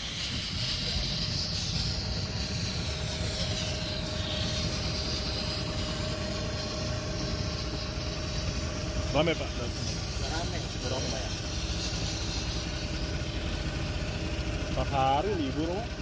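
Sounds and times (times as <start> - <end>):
high hiss: 0.0 - 16.0
vehicle engine running: 0.0 - 16.0.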